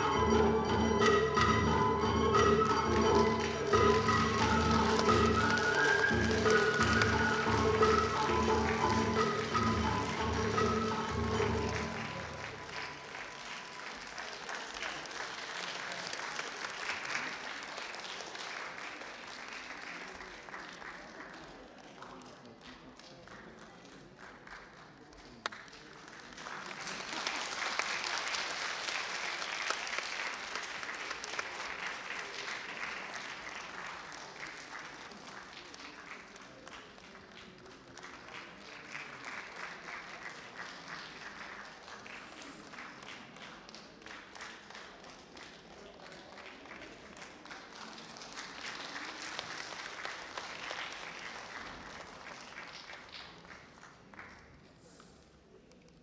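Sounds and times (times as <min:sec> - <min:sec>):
audience applauding: 0:02.4 - 0:54.6.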